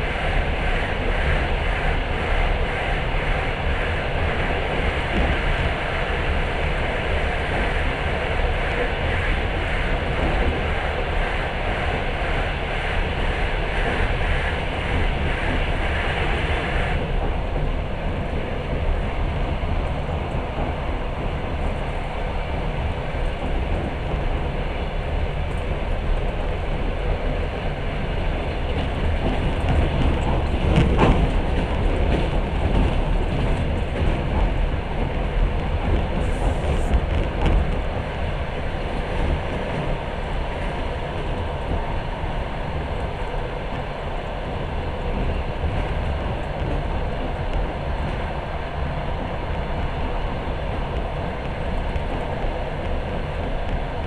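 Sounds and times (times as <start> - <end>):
train clatter: 0.0 - 54.0
train wheels rumbling on rails: 0.0 - 54.0.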